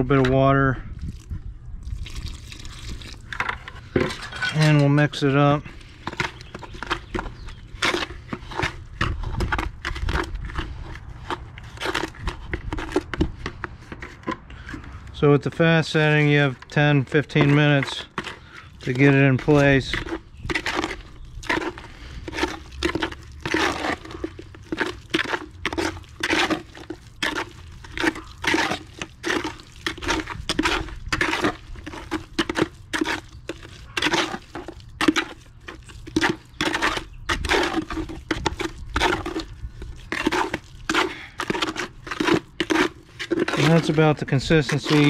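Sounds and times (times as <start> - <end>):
trowel scraping wet concrete: 2.3 - 45.0.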